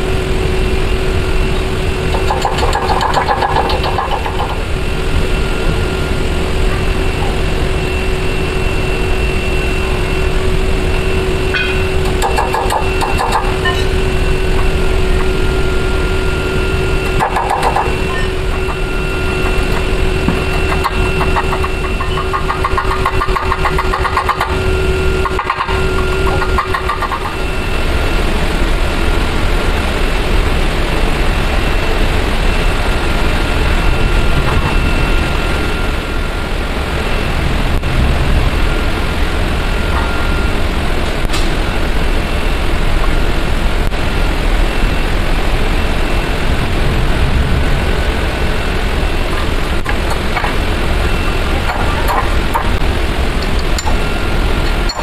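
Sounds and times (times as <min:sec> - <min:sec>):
motor running steadily: 0:00.0 - 0:55.0.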